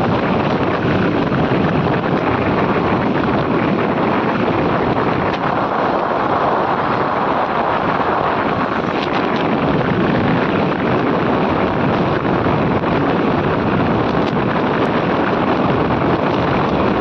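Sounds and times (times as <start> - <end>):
motorcycle vehicle noise: 0.0 - 17.0
wind buffeting microphone: 0.0 - 17.0.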